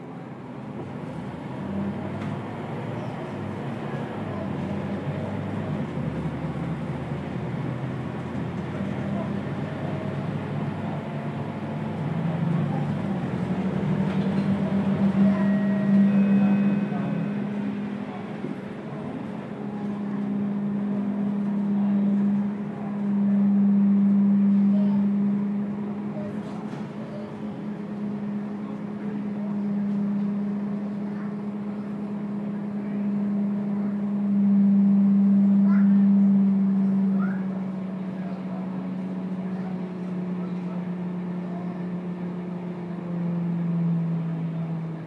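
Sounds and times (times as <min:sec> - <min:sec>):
bus diesel engine from inside: 0:00.0 - 0:45.0.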